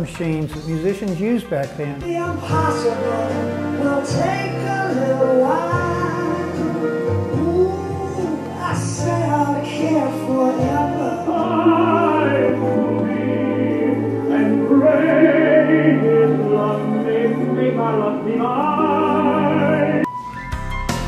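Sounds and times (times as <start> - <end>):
operatic singing voice: 0.8 - 20.1.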